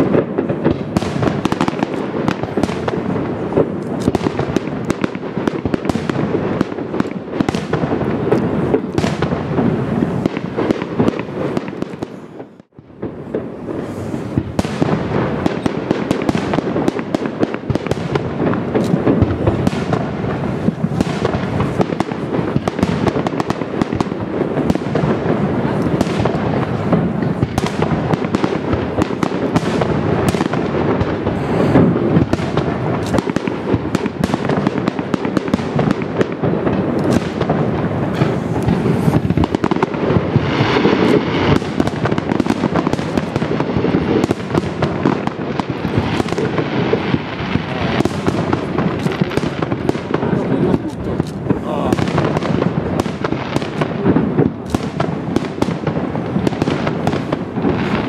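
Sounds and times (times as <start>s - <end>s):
firework shells bursting: 0.0s - 58.0s.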